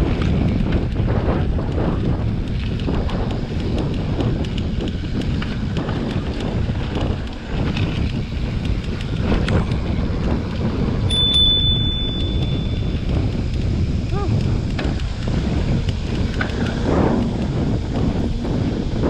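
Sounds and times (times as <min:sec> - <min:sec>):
bike ticking and rattling: 0:00.0 - 0:19.0
wind rushing over microphone: 0:00.0 - 0:19.0.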